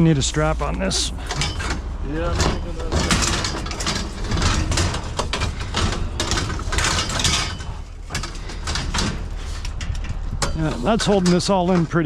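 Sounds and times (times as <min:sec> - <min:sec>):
strap clicking and rattling: 0:01.2 - 0:12.0.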